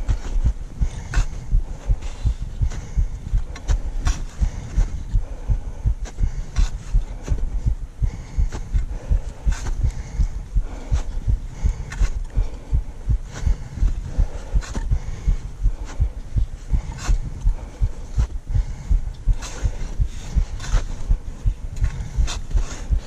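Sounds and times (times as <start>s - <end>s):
low thumps of footsteps: 0.0s - 23.0s.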